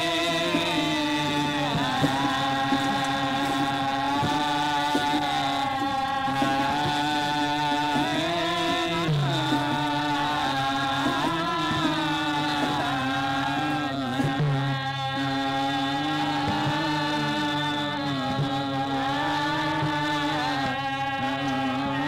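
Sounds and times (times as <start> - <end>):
slow chant-like folk singing: 0.0 - 22.0
steady held tones: 0.0 - 22.0.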